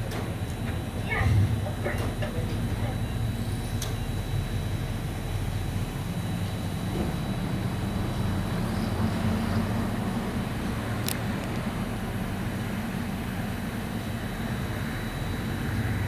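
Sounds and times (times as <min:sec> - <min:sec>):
distant engine rumble: 0:00.0 - 0:15.0.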